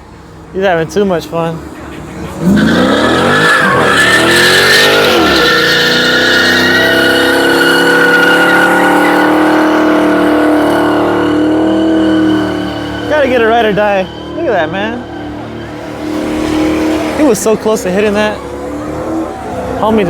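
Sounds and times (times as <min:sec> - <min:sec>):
car engine revving: 0:01.6 - 0:20.0
tyres squealing: 0:02.3 - 0:20.0.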